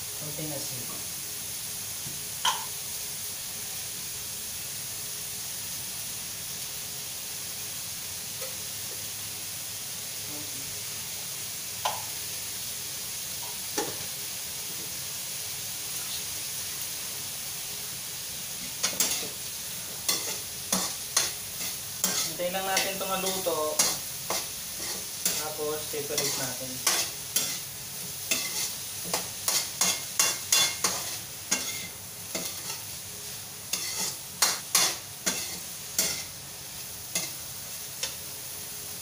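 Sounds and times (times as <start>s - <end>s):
vegetables sizzling in a wok: 0.0s - 39.0s.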